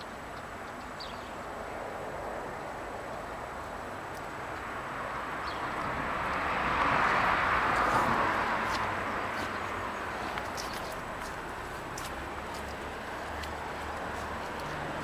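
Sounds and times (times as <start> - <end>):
road vehicle passing by: 1.0 - 15.0.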